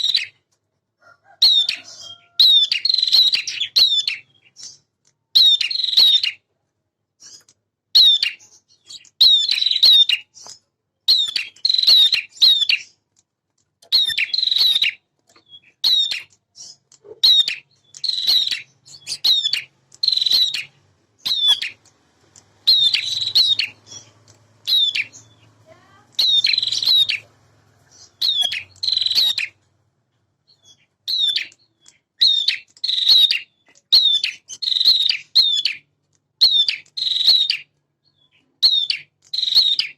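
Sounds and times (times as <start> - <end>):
bird chattering song: 0.0 - 0.4, 1.4 - 6.5, 7.2 - 13.0, 13.8 - 39.9.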